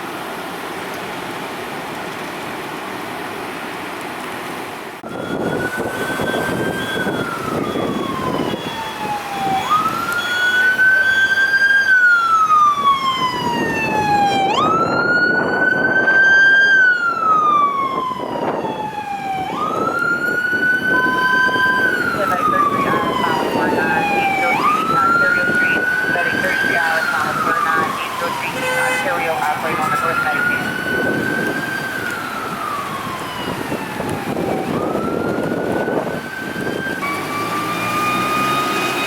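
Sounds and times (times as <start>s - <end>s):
engine and road noise: 0.0s - 39.0s
emergency siren wailing: 5.0s - 39.0s.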